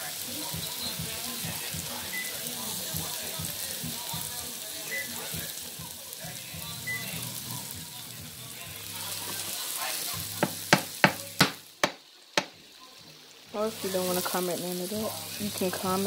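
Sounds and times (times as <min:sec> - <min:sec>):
burger patties sizzling: 0:00.0 - 0:16.0.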